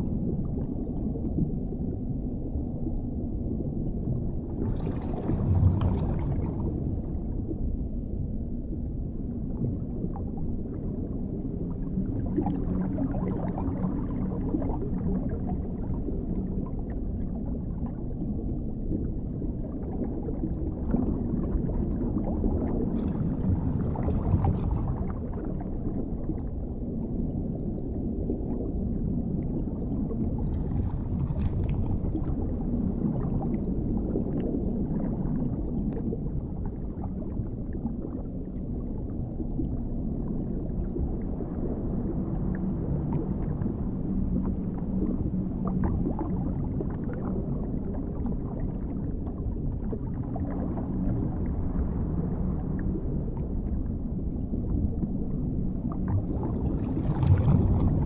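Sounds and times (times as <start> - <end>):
faint crackles and gurgles: 0.0 - 58.0
faint hum: 0.0 - 58.0
low underwater rumble: 0.0 - 58.0.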